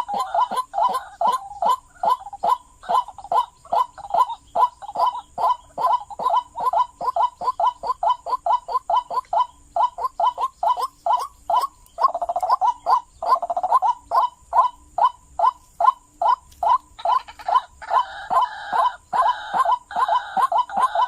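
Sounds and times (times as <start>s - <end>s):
waterhen calling: 0.0s - 21.0s.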